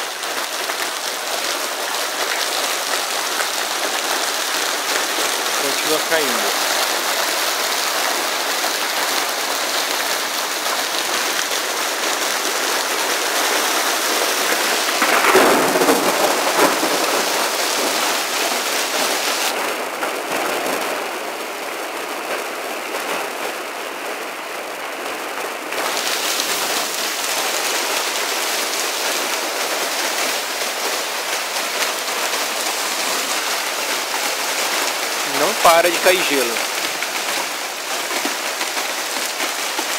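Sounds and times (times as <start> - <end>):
hailstones pelting down: 0.0 - 21.2, 25.7 - 39.9.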